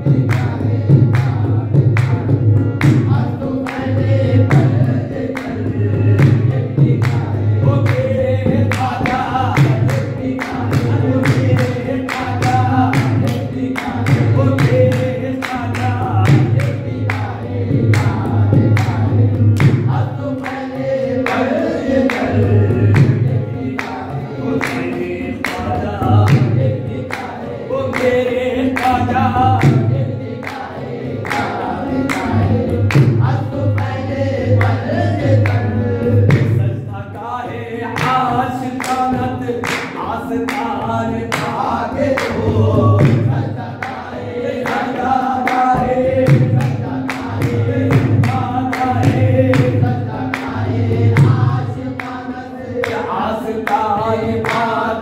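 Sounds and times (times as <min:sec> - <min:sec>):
harmonium: 0:00.0 - 0:55.0
men singing in unison: 0:00.0 - 0:55.0
rhythmic hand clapping: 0:00.0 - 0:55.0.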